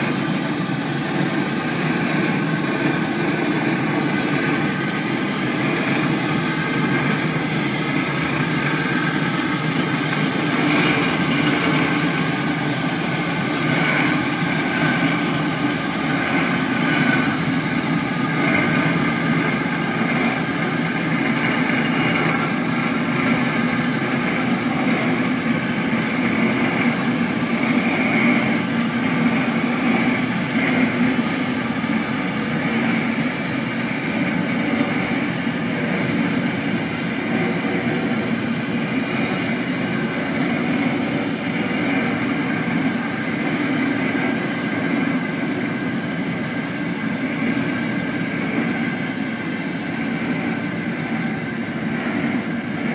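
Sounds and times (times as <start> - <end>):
boat diesel engine running: 0.0 - 52.9
propeller wash churning water: 0.0 - 52.9.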